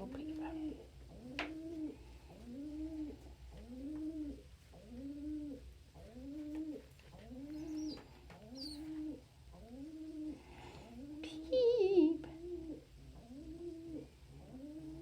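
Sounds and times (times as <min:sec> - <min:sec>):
pigeon cooing: 0:00.0 - 0:15.0.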